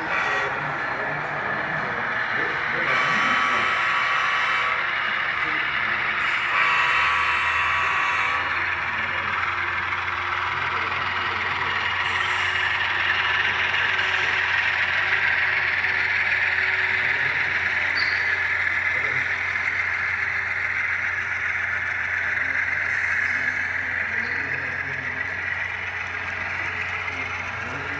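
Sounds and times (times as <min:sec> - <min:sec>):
diesel locomotive engine through small speaker: 0:00.0 - 0:27.9.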